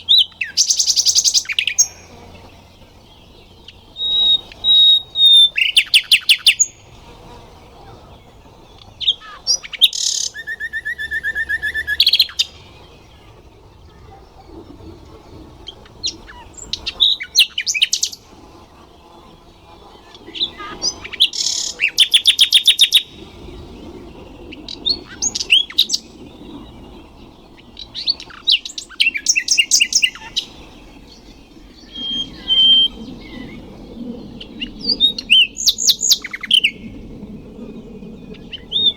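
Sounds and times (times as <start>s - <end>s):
nightingale singing: 0.0s - 7.0s, 7.7s - 18.3s, 20.1s - 37.0s.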